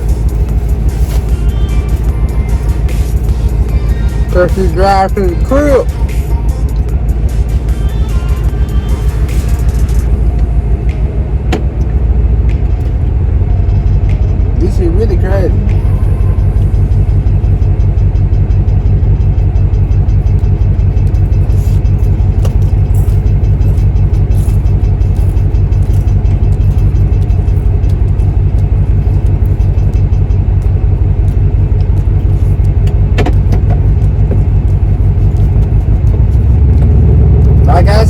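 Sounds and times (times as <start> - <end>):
truck engine rumble inside cab: 0.0 - 38.0.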